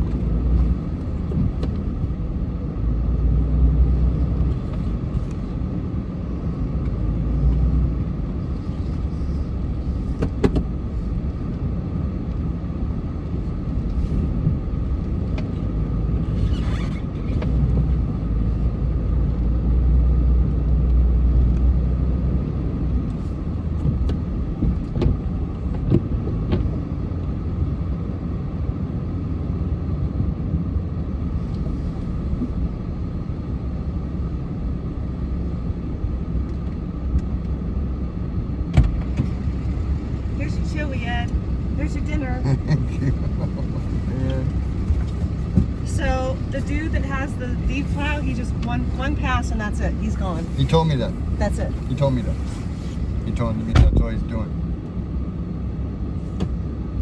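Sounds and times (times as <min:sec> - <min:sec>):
truck engine rumbling with whine: 0:00.0 - 0:57.0.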